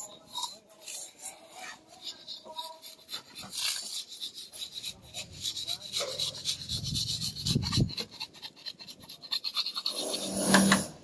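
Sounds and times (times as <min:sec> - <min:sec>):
trowel scraping mortar: 0:00.0 - 0:11.0.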